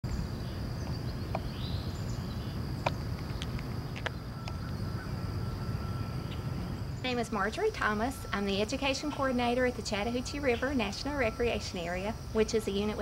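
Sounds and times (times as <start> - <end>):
high insect drone: 0.1 - 13.0.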